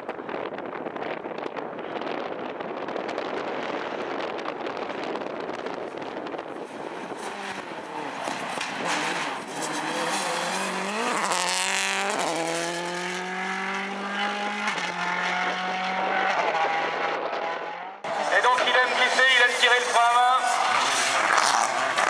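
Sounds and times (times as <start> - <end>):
rally car engine accelerating: 3.2 - 22.0.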